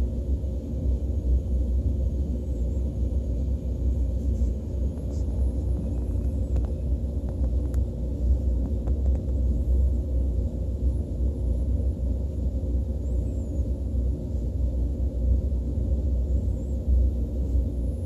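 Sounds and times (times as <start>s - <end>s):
train rumble inside carriage: 0.0s - 18.0s.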